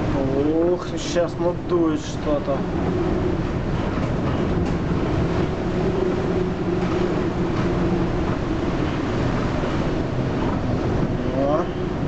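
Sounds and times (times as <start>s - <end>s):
low machinery hum: 0.0s - 12.0s
storm wind and sea spray: 0.0s - 12.0s.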